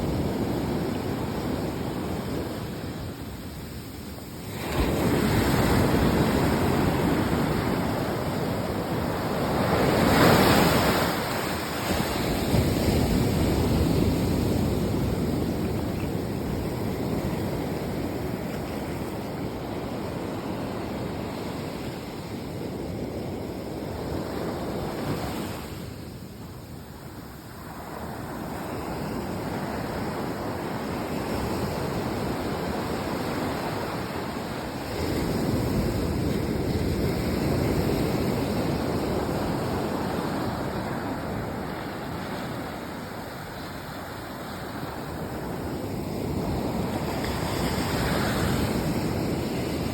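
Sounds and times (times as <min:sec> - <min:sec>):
ocean waves washing in: 0:00.0 - 0:49.9.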